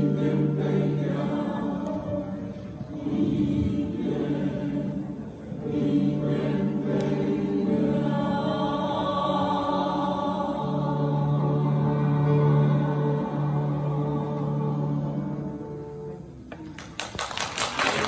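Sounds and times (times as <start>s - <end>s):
choir singing: 0.0s - 16.4s.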